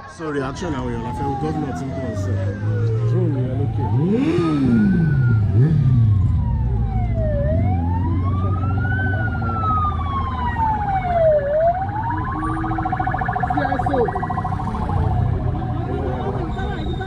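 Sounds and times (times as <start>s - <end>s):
passing vehicles: 0.0s - 17.0s
siren wailing and yelping: 0.0s - 17.0s.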